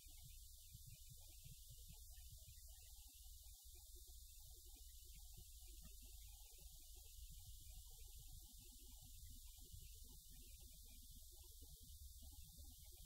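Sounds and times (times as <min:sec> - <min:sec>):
faint low rumble with hiss: 0:00.0 - 0:13.0.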